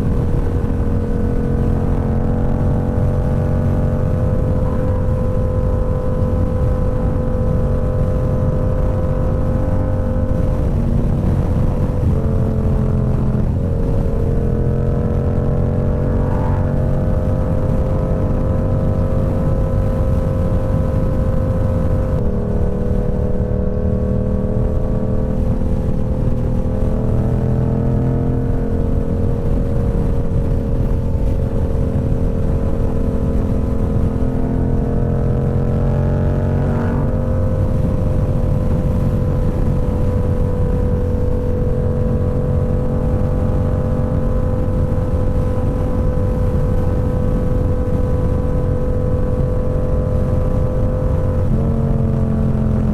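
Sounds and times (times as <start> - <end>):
low wind rumble: 0.0 - 52.9
motorcycle engine cruising: 0.0 - 52.9.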